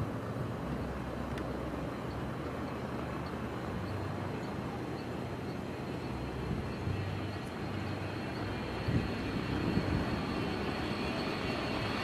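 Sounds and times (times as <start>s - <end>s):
jet engines at takeoff power: 0.0s - 12.0s.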